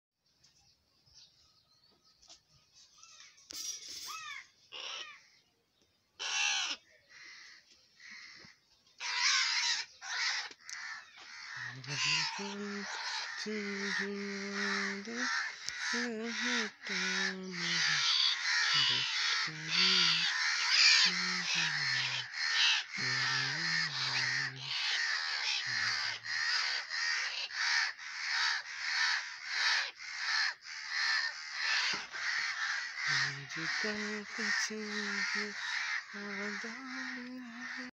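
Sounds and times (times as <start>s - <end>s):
crow cawing: 4.2s - 5.4s, 6.2s - 37.9s.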